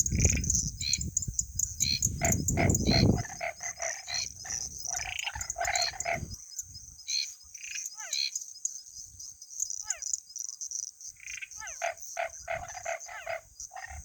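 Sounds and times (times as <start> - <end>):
frogs calling: 0.0 - 14.0.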